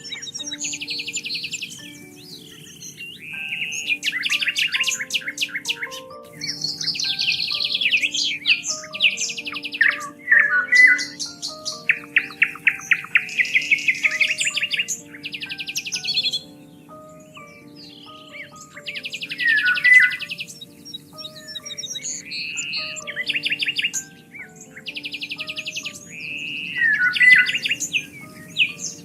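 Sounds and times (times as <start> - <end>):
soft music with low held notes: 0.0 - 29.0
songbirds trilling and chirping: 0.0 - 29.0.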